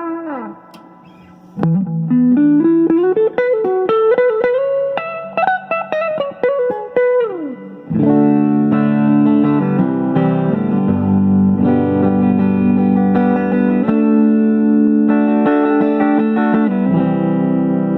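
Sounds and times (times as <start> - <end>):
electric guitar lead and chords: 0.0 - 17.9.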